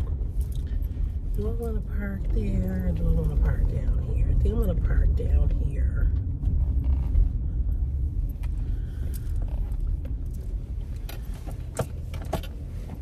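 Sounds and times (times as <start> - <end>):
car engine rumble from inside: 0.0 - 13.0.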